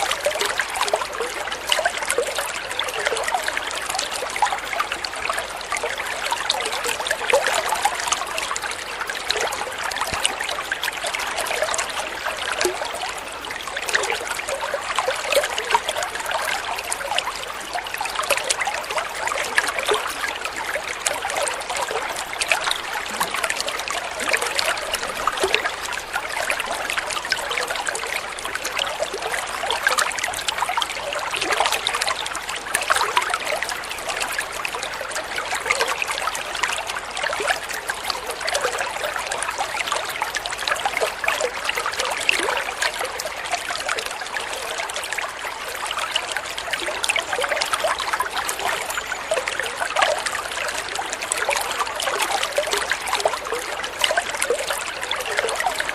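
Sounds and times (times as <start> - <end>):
water flowing and trickling: 0.0 - 55.9.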